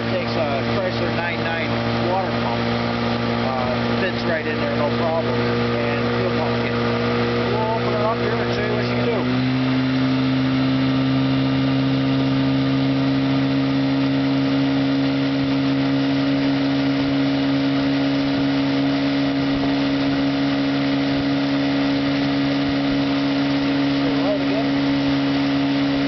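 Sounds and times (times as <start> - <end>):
outboard motor droning: 0.0 - 26.0.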